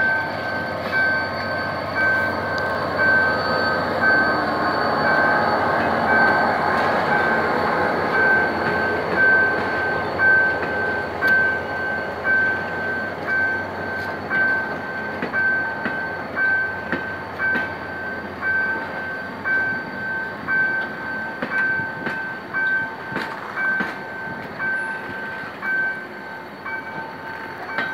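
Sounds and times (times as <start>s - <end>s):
level crossing warning beeps: 0.0s - 27.9s
train wheels clicking over rail joints: 0.8s - 27.9s.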